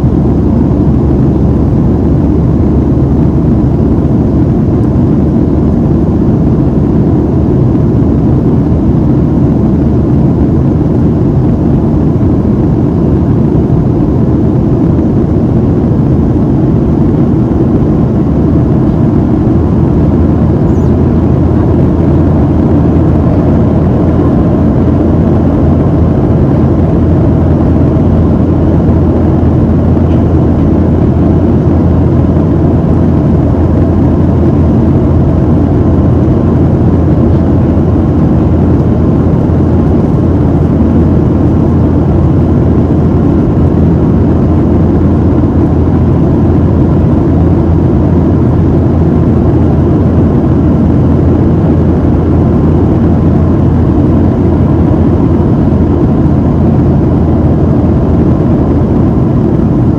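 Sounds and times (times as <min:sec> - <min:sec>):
jet engines rumbling: 0:00.0 - 0:59.9
rushing air in aircraft cabin: 0:00.0 - 0:59.9.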